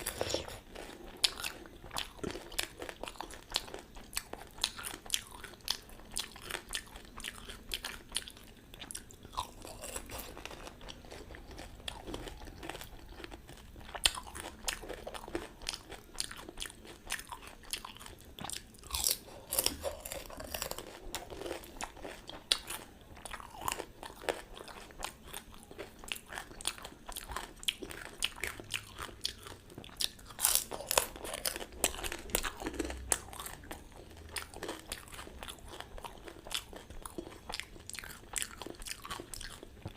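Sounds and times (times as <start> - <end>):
crisp shells crunching when chewed: 0.0 - 39.9.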